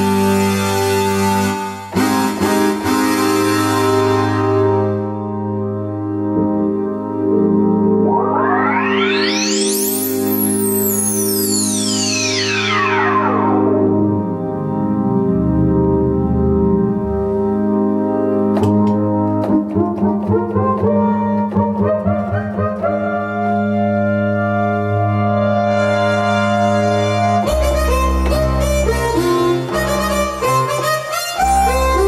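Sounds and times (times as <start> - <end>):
synthesizer chords and notes: 0.0 - 32.0.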